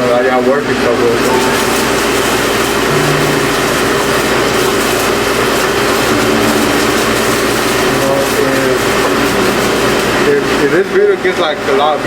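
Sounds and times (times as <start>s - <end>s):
kitchen equipment drone: 0.0s - 12.0s
constant hum: 0.9s - 10.9s.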